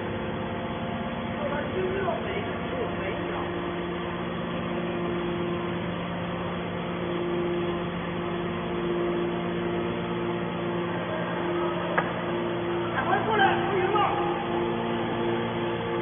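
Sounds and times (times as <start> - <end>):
hydraulic press humming: 0.0 - 16.0.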